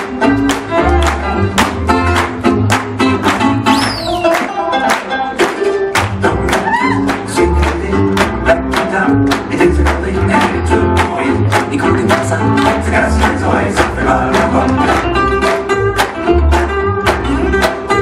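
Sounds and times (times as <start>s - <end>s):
swing jazz music: 0.0s - 18.0s.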